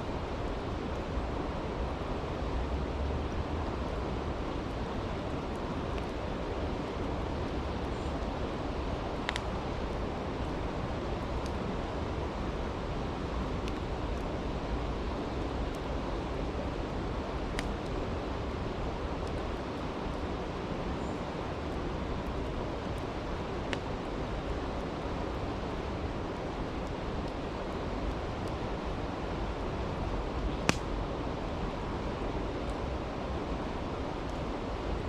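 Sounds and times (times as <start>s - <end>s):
campfire pops and crackles: 0.1s - 35.0s.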